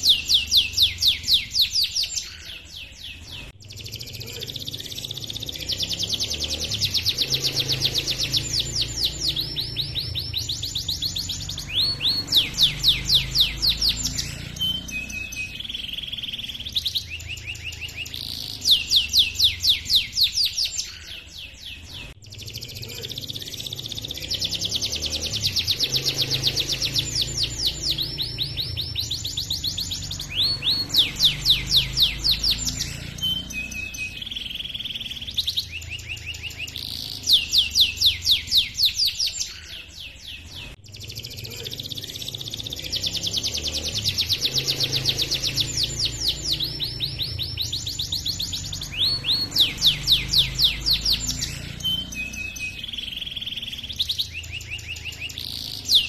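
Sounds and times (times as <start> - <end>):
canary singing trills and chirps: 0.0 - 56.0.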